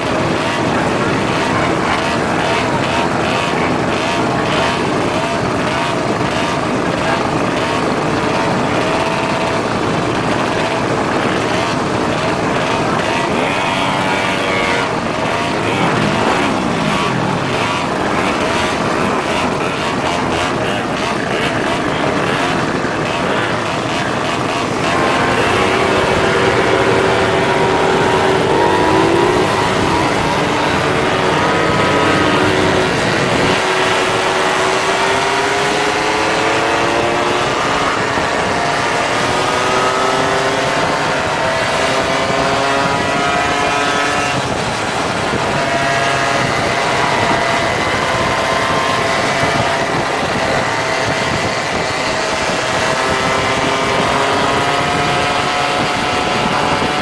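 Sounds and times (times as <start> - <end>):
moped engines revving: 0.0 - 57.0.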